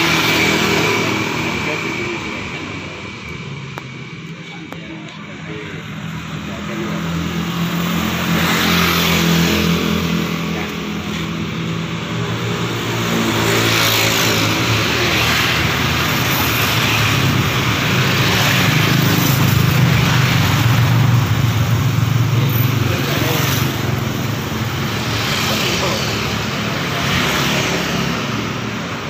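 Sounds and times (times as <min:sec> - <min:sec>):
vehicles passing: 0:00.0 - 0:29.0.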